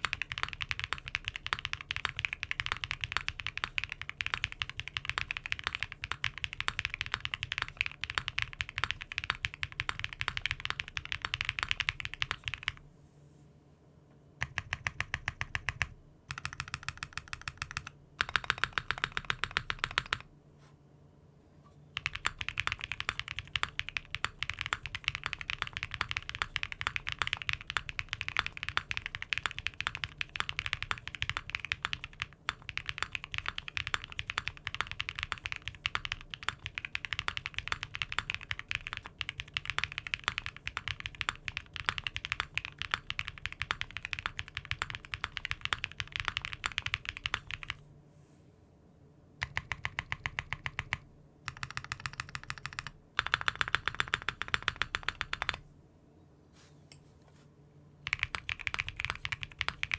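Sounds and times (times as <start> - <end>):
typing on mechanical keyboard: 0.0 - 12.8, 14.4 - 20.3, 22.0 - 47.8, 49.4 - 55.6, 58.0 - 59.9.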